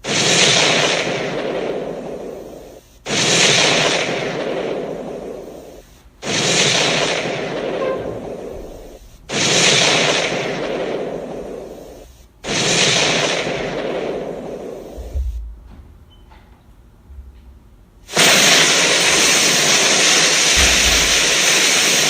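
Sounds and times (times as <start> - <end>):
explosion sound effect blasts: 0.0 - 15.4, 18.1 - 22.0.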